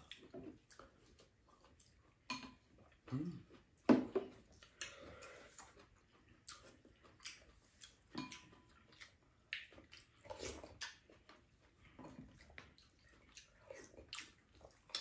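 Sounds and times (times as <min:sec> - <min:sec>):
slurping and chewing: 0:00.0 - 0:15.0.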